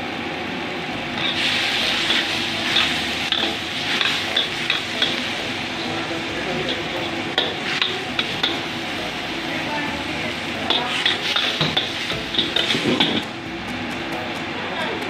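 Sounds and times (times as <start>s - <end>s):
broccoli sizzling in a wok: 0.8s - 13.9s.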